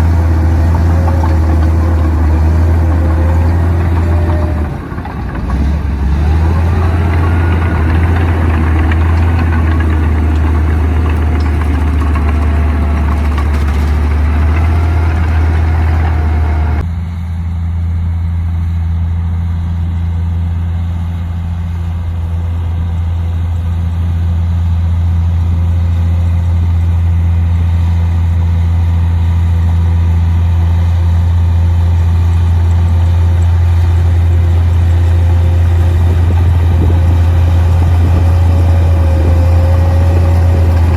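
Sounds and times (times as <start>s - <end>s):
bulldozer diesel engine humming: 0.0s - 40.9s.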